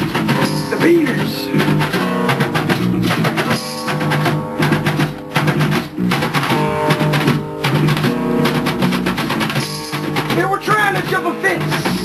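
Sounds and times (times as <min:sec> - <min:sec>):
steady drum beat: 0:00.0 - 0:12.0
strummed guitar: 0:00.0 - 0:12.0.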